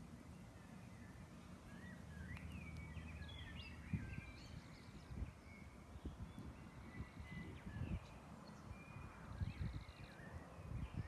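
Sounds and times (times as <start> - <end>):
small birds chirping and whistling: 0.3 - 11.0.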